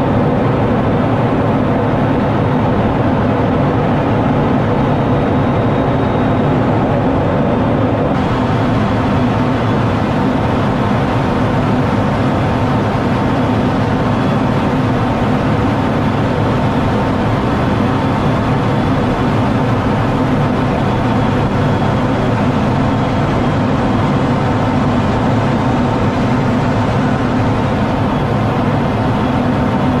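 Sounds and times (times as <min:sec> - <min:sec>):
jet engine and rushing airflow: 0:00.0 - 0:30.0.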